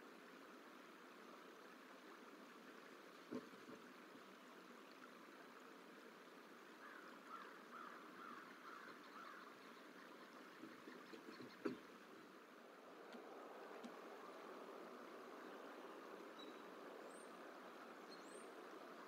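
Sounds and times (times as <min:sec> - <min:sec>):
outdoor hiss: 0:00.0 - 0:19.0.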